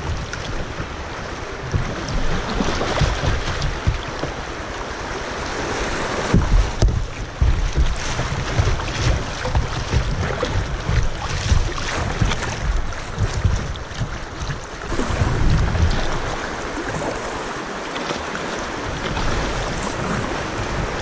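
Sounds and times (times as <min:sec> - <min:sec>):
creek water rushing and splashing: 0:00.0 - 0:21.0
water slapping over kayak bow: 0:00.0 - 0:21.0
wind buffeting microphone: 0:00.0 - 0:21.0.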